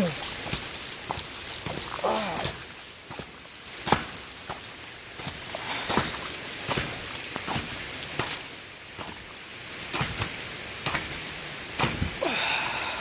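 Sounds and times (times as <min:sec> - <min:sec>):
footsteps splashing through water: 0:00.0 - 0:12.2
heavy rain falling: 0:00.0 - 0:13.0.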